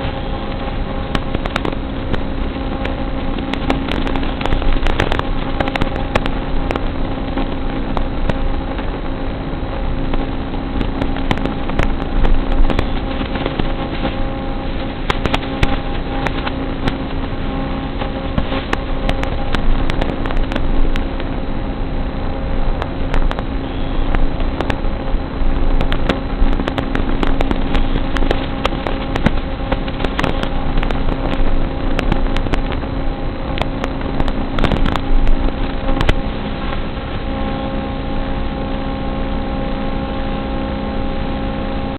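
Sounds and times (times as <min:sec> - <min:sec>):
crackling clicks: 0:00.0 - 0:21.5, 0:22.7 - 0:38.9
electrical hum: 0:00.0 - 0:41.9
static hiss: 0:00.0 - 0:41.9.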